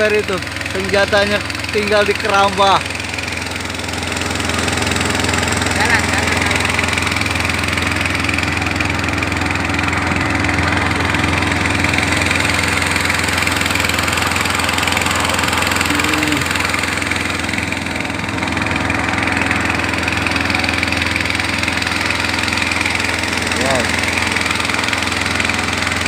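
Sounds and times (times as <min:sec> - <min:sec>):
boat engine hum: 0:00.0 - 0:26.0
water noise: 0:04.3 - 0:26.0.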